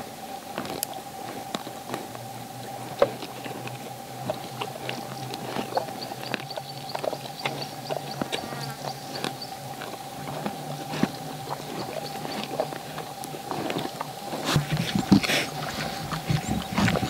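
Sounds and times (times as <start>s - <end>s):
warthog crunching and chewing: 0.0s - 17.0s.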